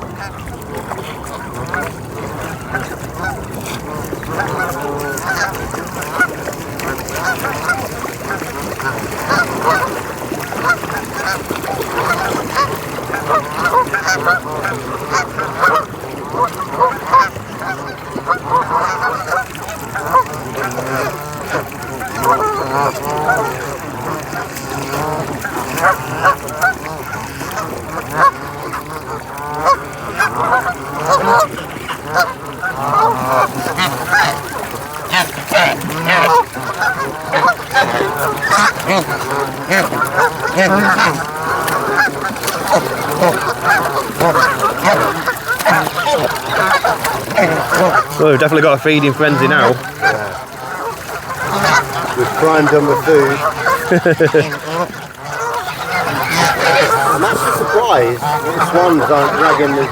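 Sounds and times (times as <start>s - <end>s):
geese honking: 0.1s - 59.9s.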